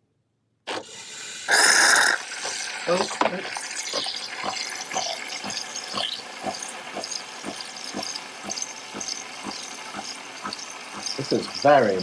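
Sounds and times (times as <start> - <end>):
milk frother hissing and pulsing: 0.7 - 12.0.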